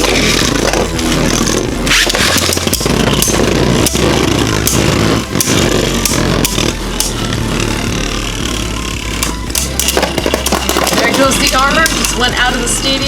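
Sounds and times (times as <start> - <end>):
spinning tops clacking together: 0.0 - 7.3, 9.1 - 12.4
spinning tops whirring and grinding: 0.0 - 13.0.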